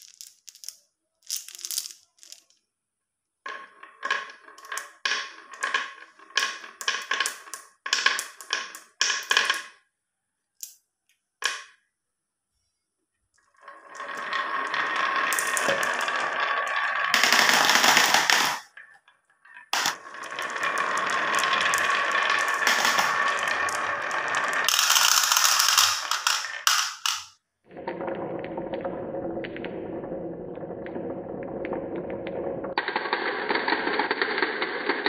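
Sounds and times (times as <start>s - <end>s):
marbles rattling down wooden track: 0.0s - 2.6s, 3.5s - 9.8s, 13.6s - 18.9s, 19.5s - 35.0s.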